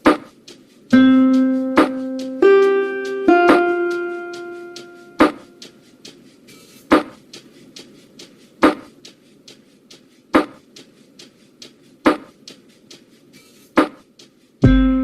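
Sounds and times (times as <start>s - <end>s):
faint low hiss: 0.0s - 15.0s
soft percussion ticks: 0.0s - 15.0s.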